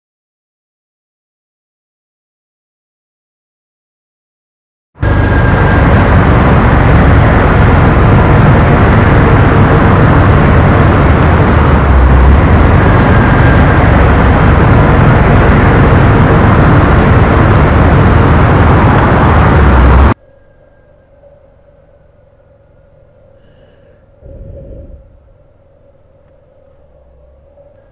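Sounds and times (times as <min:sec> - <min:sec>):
loud low rumbling: 0:05.0 - 0:27.9.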